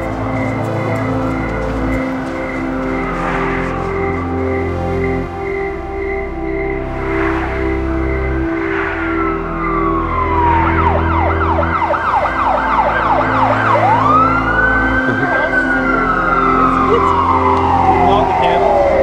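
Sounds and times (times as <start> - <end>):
electronic music with synth chords: 0.0 - 19.0
emergency vehicle siren: 0.0 - 19.0.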